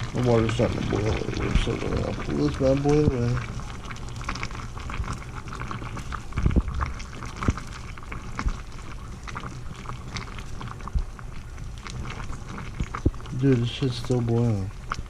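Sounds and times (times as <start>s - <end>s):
water boiling and bubbling: 0.0s - 15.0s.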